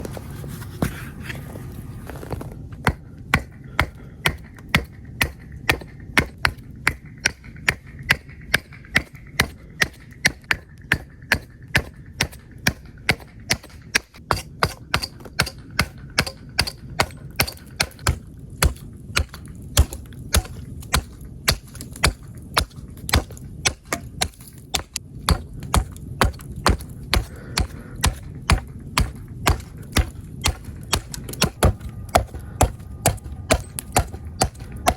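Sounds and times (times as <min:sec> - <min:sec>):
hatchet chopping wood: 0:02.8 - 0:34.9.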